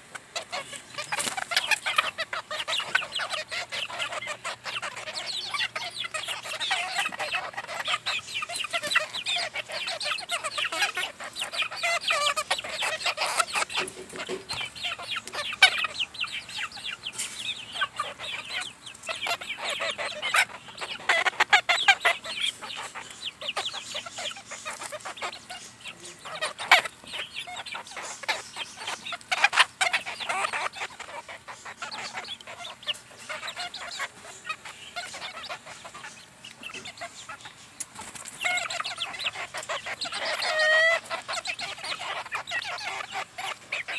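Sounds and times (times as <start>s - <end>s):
beaks pecking on ground: 0.0s - 43.9s
hens clucking: 0.0s - 43.9s.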